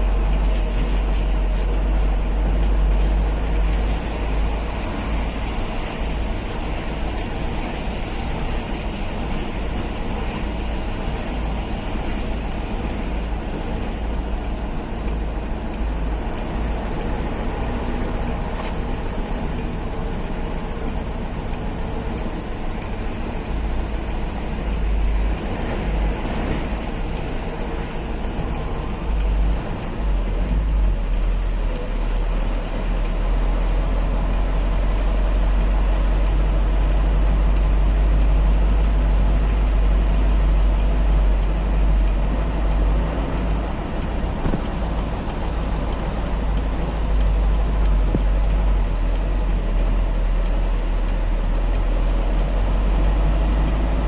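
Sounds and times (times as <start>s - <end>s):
faint ticking: 0.0s - 54.0s
truck engine and tyre rumble: 0.0s - 54.0s.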